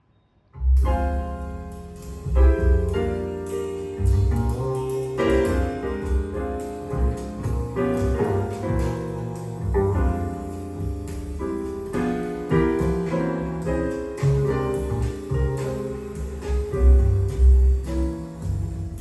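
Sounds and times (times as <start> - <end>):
deep bass notes: 0.6 - 19.0
jazz piano: 0.6 - 19.0.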